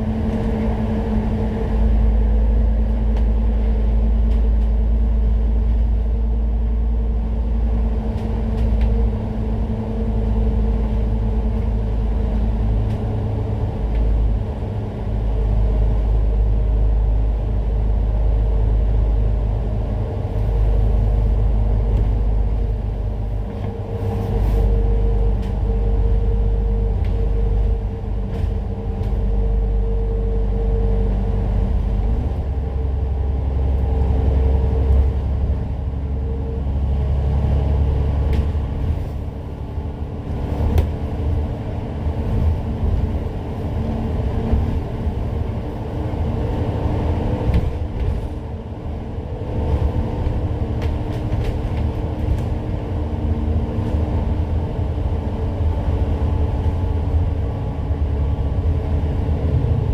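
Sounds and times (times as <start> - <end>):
bus engine rumble and whine: 0.0 - 59.9.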